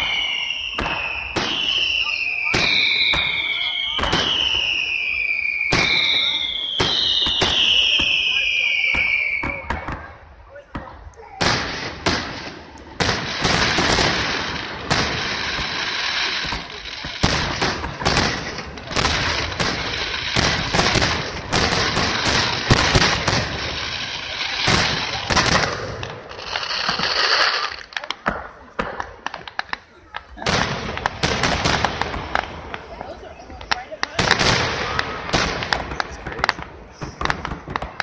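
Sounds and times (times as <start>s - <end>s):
fireworks bangs: 0.0s - 38.0s
fireworks crackle: 0.0s - 38.0s.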